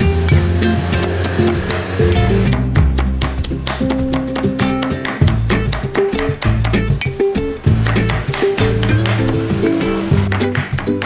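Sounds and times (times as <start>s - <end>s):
bass line: 0.0s - 11.0s
percussive strokes: 0.0s - 11.0s
plucked guitar music: 0.0s - 11.0s.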